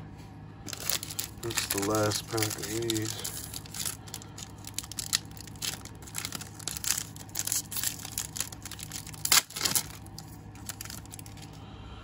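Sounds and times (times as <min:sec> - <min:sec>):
plastic wrapper crinkling: 0:00.7 - 0:11.6.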